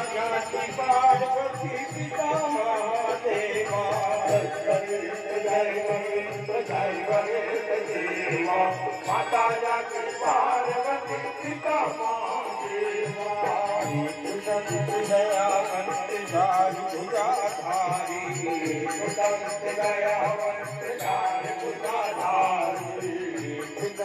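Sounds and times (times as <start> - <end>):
jingling bells: 0.0 - 24.0
person singing: 0.0 - 24.0.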